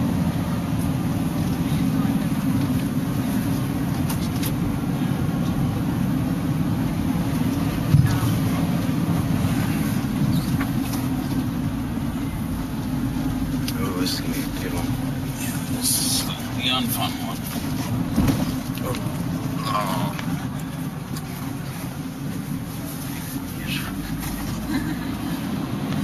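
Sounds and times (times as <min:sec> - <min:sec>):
van engine and tyres rumbling: 0:00.0 - 0:26.0.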